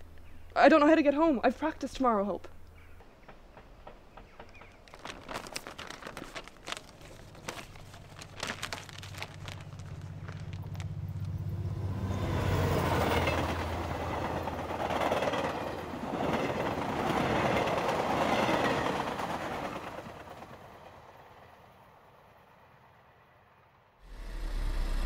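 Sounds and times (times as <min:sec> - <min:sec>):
train passing: 0:02.5 - 0:25.0.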